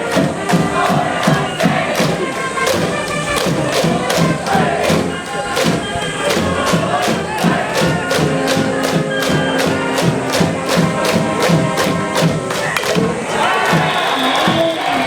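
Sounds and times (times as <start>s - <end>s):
brass instruments playing: 0.0s - 15.0s
crowd chanting: 0.0s - 15.0s
steady drum beat: 0.0s - 15.0s.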